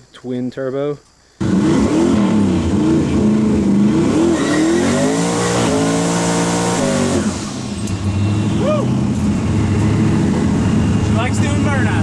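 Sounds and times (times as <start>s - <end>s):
twin-turbo engine revving: 1.4s - 12.0s.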